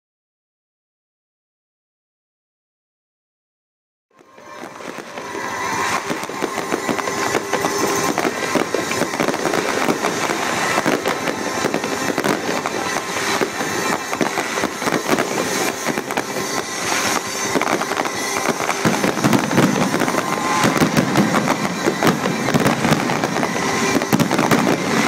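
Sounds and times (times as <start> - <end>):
fireworks crackling pops: 4.2 - 25.0
fireworks shell bursts: 4.2 - 25.0.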